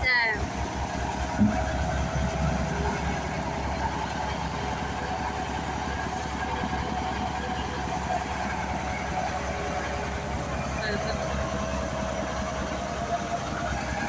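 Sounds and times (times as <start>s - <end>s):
threshing machine humming: 0.0s - 14.0s.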